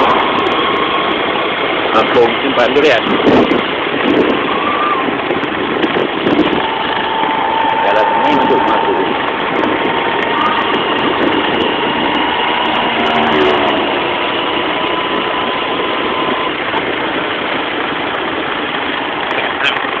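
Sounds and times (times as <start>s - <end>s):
faint steady whine: 0.0s - 20.0s
road and wind noise: 0.0s - 20.0s
vehicle engine running: 0.0s - 20.0s.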